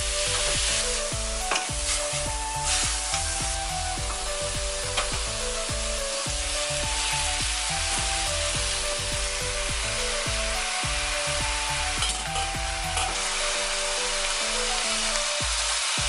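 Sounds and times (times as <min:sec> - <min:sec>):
background music: 0:00.0 - 0:16.0
food sizzling in a pan: 0:00.0 - 0:16.0.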